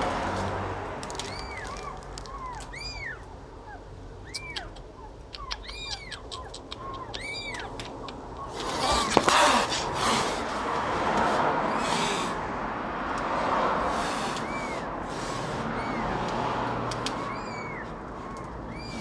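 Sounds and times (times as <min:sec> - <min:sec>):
kittens mewing: 0:01.0 - 0:10.6, 0:11.2 - 0:19.0.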